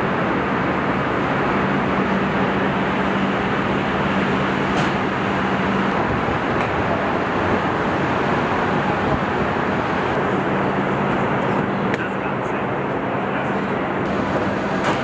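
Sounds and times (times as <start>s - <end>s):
machinery roaring: 0.0s - 15.0s.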